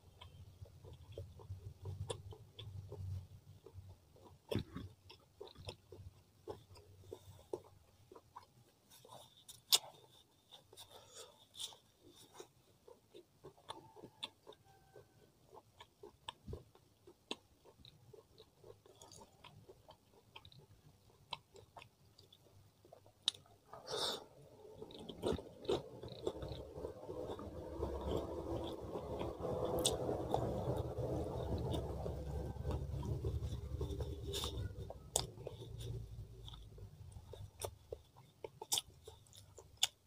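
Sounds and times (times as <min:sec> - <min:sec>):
close chewing with lip smacks: 0:00.0 - 0:23.8, 0:24.4 - 0:40.0.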